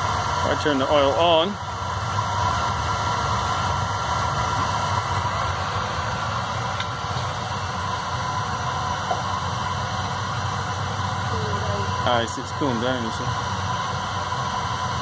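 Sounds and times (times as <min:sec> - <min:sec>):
faint steady whine: 0:00.0 - 0:15.0
oil burner rumbling: 0:00.0 - 0:15.0.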